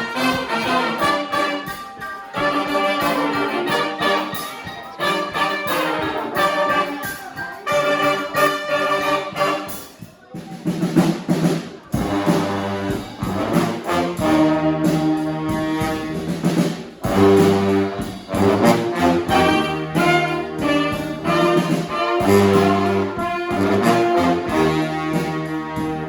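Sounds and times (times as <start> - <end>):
brass band playing: 0.0 - 26.0.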